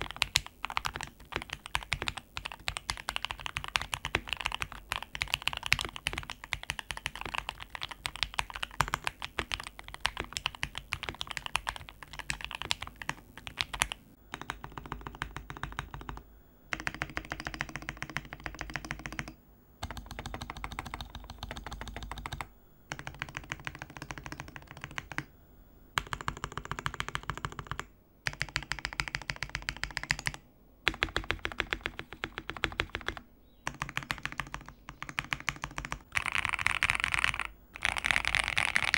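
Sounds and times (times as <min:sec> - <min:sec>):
mechanical keyboard typing: 0:00.0 - 0:25.3, 0:26.0 - 0:38.9.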